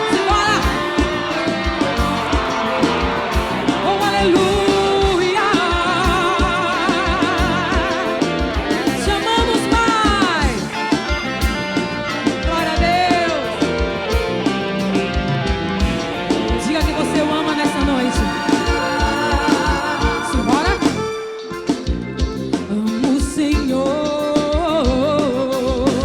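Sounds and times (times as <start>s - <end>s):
live band playing: 0.0s - 26.0s
steady drum beat: 0.0s - 26.0s.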